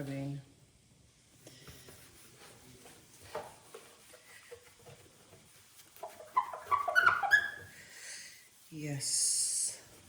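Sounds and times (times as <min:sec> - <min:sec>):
rag scrubbing on a shelf: 0:01.6 - 0:10.0.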